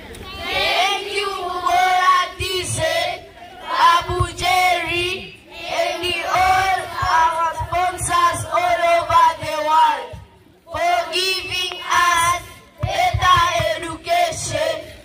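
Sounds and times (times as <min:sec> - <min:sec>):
children singing in unison: 0:00.4 - 0:09.4, 0:10.7 - 0:14.9.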